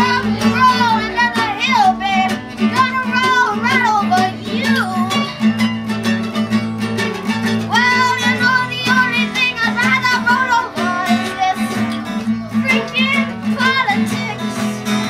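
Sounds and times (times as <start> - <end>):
person singing: 0.0 - 5.4, 7.6 - 15.0
plucked acoustic guitar: 0.0 - 15.0.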